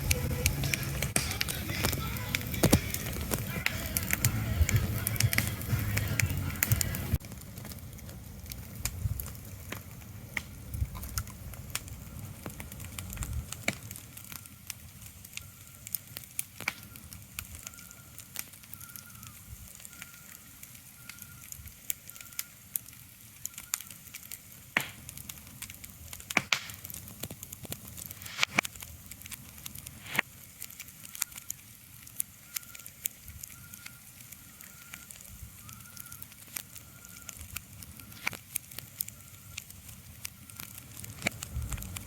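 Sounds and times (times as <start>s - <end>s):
crackles and snaps: 0.0s - 42.0s
steady low hiss: 0.0s - 42.0s.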